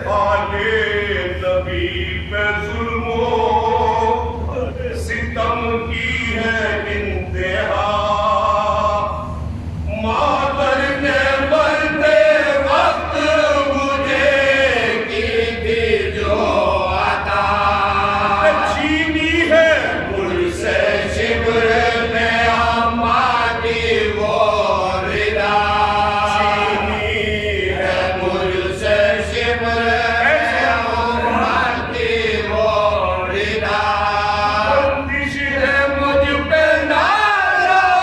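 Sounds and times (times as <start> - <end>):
men chanting unaccompanied: 0.0 - 9.2, 9.9 - 38.0
low hum: 0.0 - 37.6.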